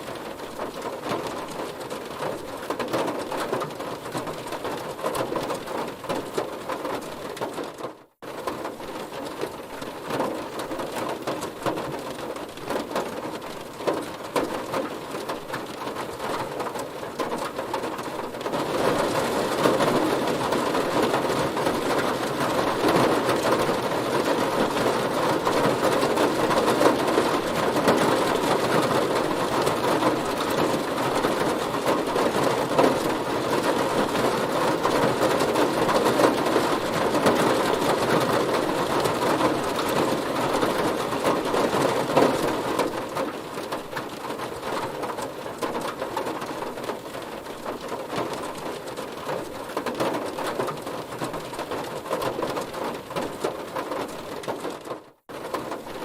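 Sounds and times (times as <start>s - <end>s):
heavy rain on a car: 0.0s - 56.0s.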